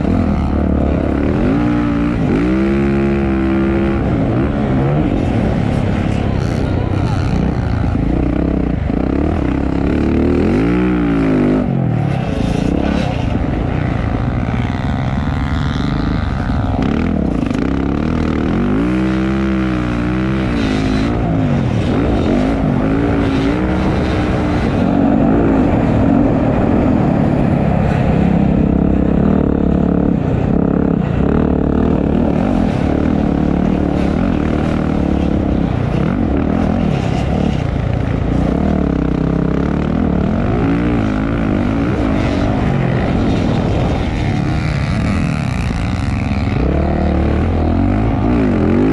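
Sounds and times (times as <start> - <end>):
motocross engines revving: 0.0 - 48.9.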